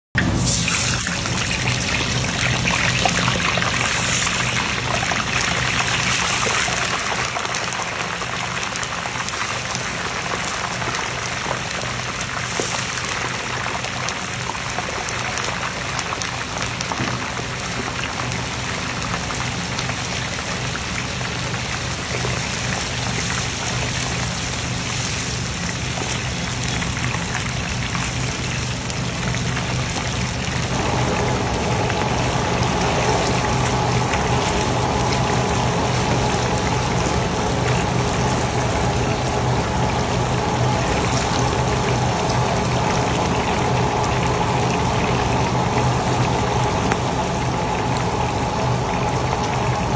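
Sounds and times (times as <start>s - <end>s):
fish sizzling in hot oil: 0.3s - 49.0s.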